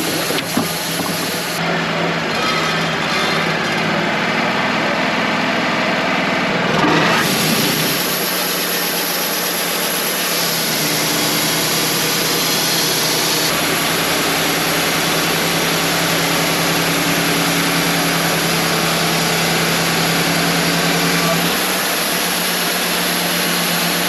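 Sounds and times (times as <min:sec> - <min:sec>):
portable sawmill running: 0:00.0 - 0:24.0.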